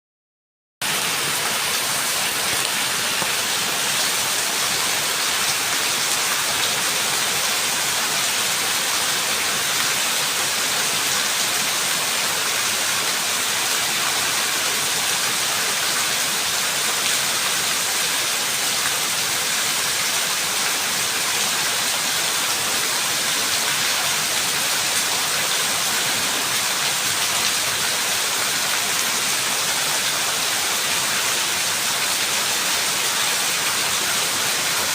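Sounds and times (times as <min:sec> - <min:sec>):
steady rain falling: 0:00.8 - 0:34.9.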